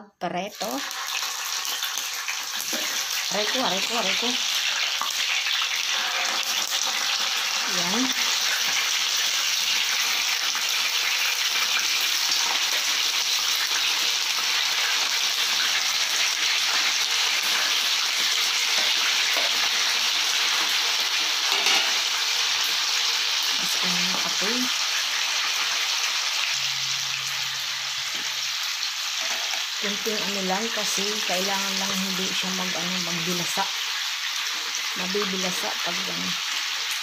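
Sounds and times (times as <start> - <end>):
chicken sizzling in hot oil: 0.5 - 37.0.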